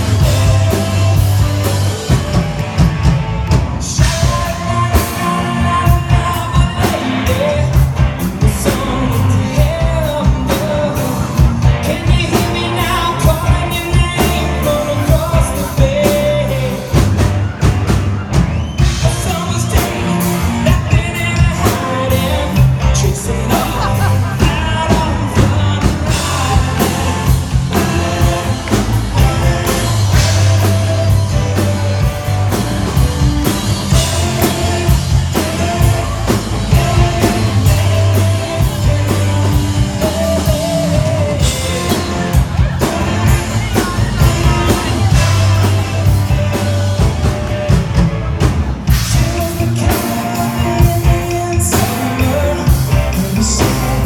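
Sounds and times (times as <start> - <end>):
lead singer singing: 0.0 - 54.0
live rock band playing: 0.0 - 54.0
steady drum beat: 0.0 - 54.0.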